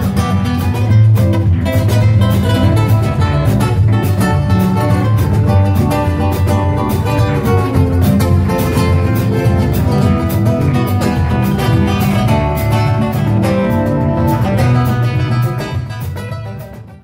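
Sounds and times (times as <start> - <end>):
acoustic guitar: 0.0 - 17.0
bass: 0.0 - 17.0
drums: 0.0 - 17.0.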